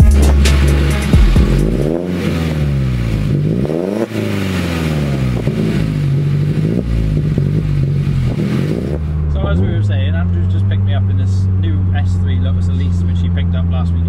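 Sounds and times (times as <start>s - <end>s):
car engine idling: 0.0s - 14.0s
car engine revving: 0.0s - 14.0s.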